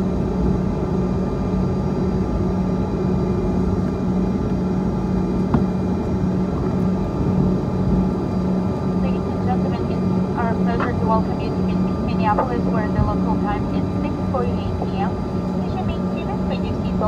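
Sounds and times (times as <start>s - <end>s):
jet engines humming in cabin: 0.0s - 17.0s.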